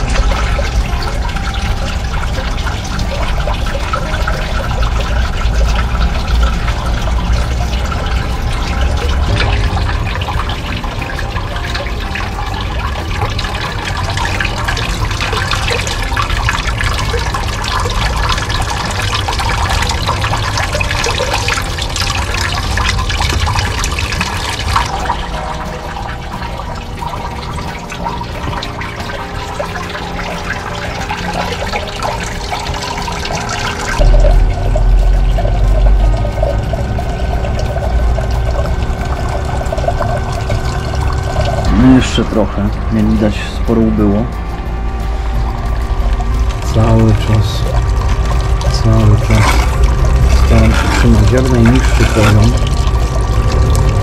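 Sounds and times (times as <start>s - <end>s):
low rumble: 0.0s - 28.0s, 33.9s - 54.0s
steady pump hum: 0.0s - 54.0s
water churning in a bowl: 0.0s - 54.0s.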